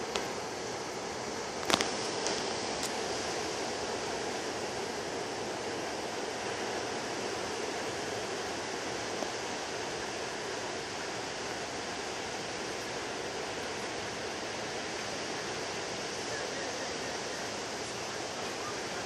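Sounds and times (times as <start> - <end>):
small waves breaking on sand: 0.0 - 19.0.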